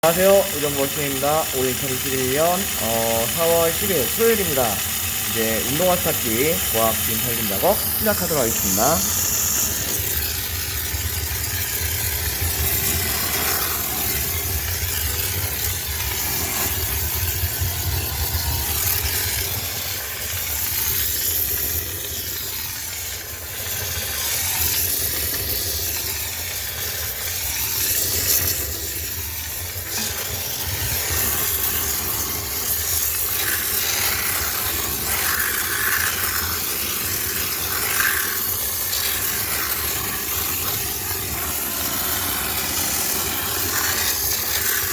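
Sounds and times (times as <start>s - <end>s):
steam cleaner hissing: 0.0s - 44.9s.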